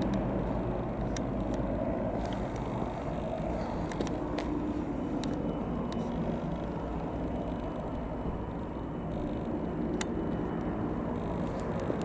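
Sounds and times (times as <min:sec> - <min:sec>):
helicopter rotor and turbine rumble: 0:00.0 - 0:12.0.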